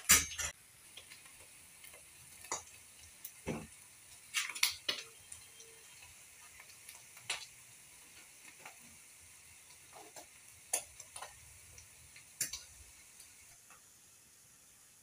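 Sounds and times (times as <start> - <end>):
oil popping and crackling: 0.0 - 13.9
fish sizzling in oil: 0.0 - 15.0.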